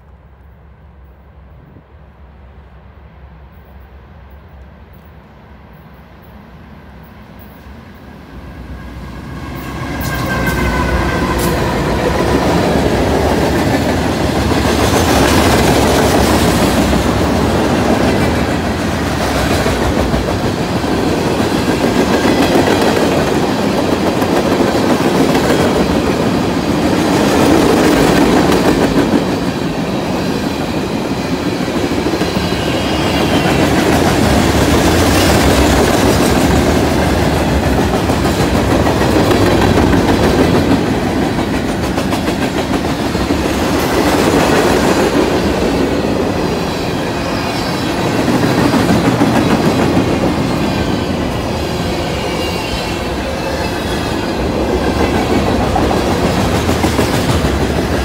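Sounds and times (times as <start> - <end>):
diesel locomotives passing: 0.0 - 58.0.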